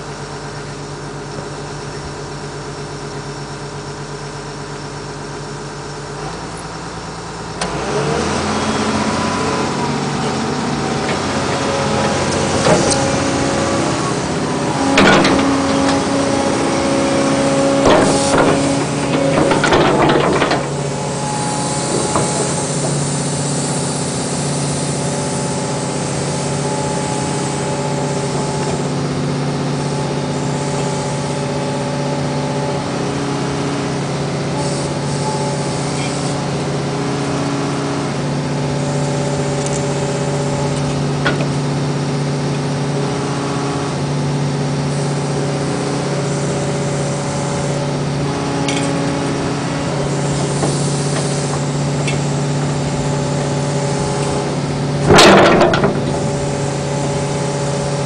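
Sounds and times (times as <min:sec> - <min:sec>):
excavator diesel engine running: 0:00.0 - 0:58.0
hydraulics whine: 0:00.0 - 0:58.0
loud rough noise: 0:06.1 - 0:58.0.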